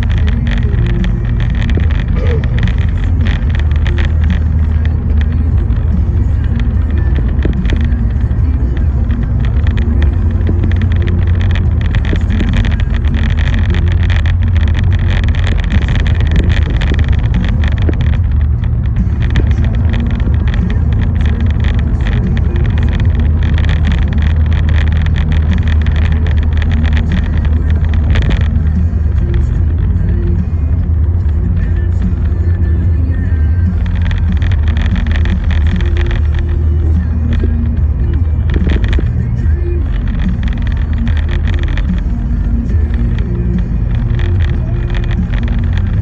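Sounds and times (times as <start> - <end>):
car road rumble: 0.0 - 46.0
rain and wet tyres crackling: 0.0 - 46.0.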